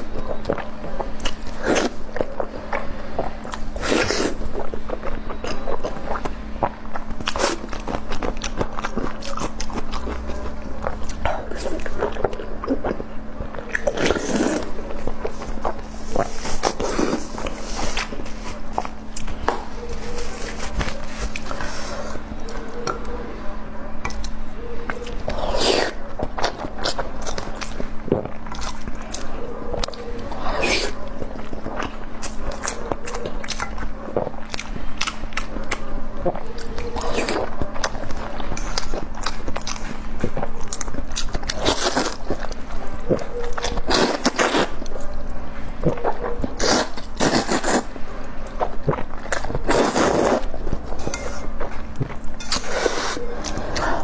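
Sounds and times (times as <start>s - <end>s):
food crunching and chewing: 0.0s - 54.0s.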